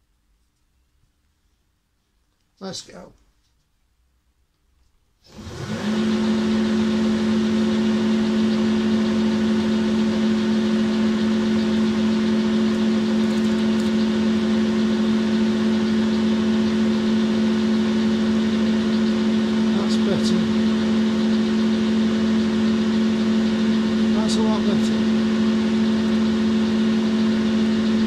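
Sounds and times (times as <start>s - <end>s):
lathe motor running: 5.3s - 28.0s.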